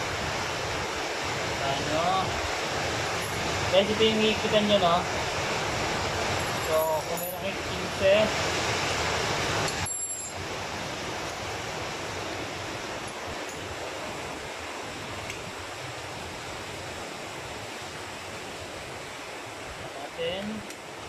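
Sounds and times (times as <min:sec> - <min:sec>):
steady rushing hiss: 0:00.0 - 0:21.0.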